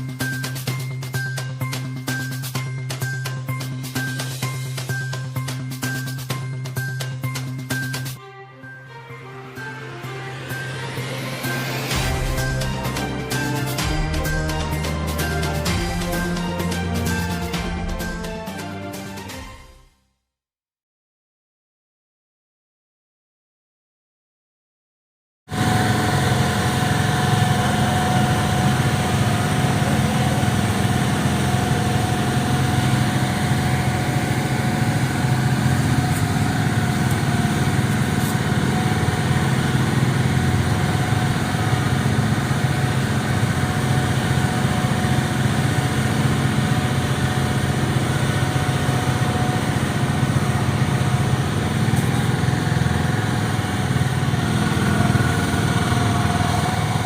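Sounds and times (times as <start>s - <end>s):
small engine running steadily: 0.0s - 8.2s, 9.5s - 19.4s, 25.5s - 57.0s.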